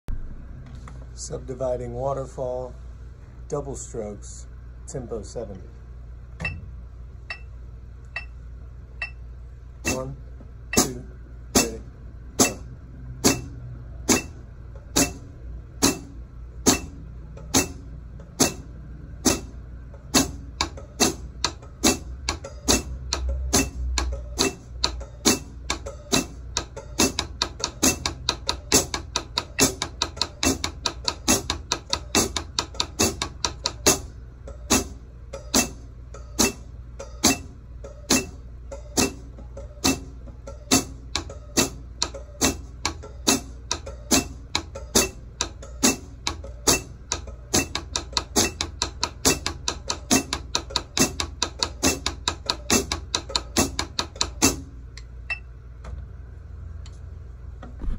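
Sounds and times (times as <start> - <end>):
drumsticks on practice pad: 7.2 - 8.4, 9.8 - 56.0.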